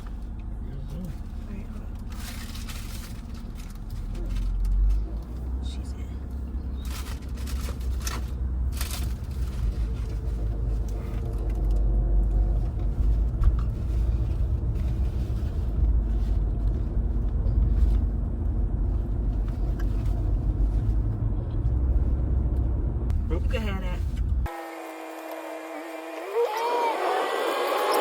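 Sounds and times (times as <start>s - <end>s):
car cabin rumble: 0.0s - 24.5s.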